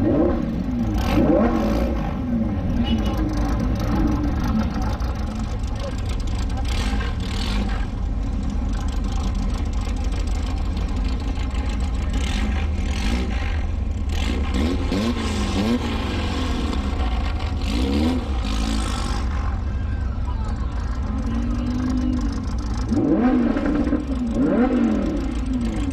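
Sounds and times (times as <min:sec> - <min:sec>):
car engine low drone: 0:00.0 - 0:25.9.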